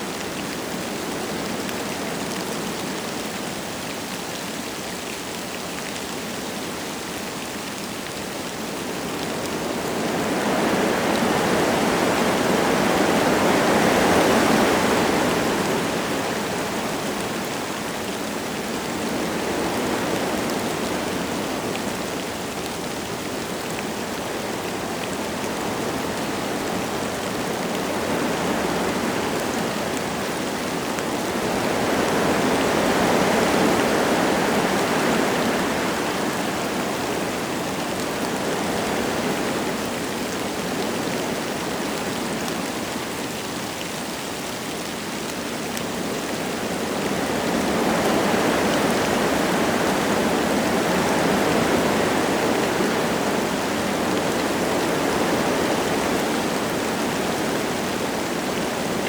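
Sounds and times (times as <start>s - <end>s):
light rain falling: 0.0s - 59.0s
wind gusting through trees: 0.0s - 59.0s.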